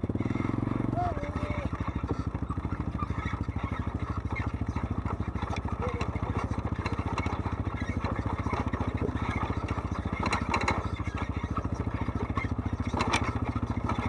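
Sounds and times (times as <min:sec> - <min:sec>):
atv engine chugging: 0:00.0 - 0:14.0.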